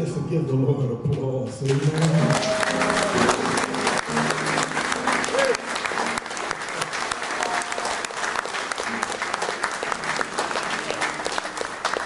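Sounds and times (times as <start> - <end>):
people clapping: 1.6 - 12.0.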